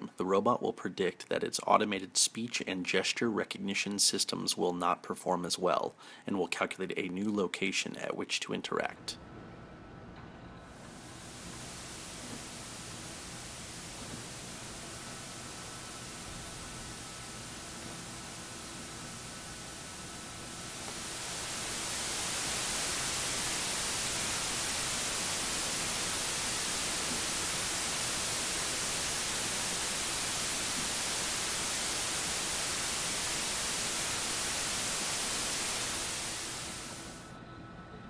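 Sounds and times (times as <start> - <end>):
steady noise hiss: 0.0 - 38.0.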